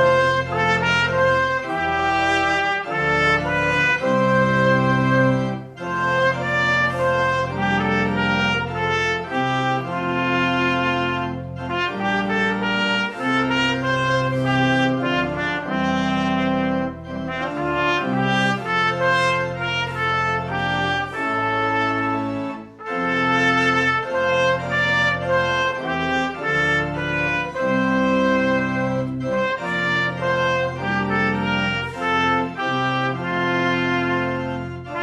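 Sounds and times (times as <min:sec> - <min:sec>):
brass ensemble playing chords: 0:00.0 - 0:35.0.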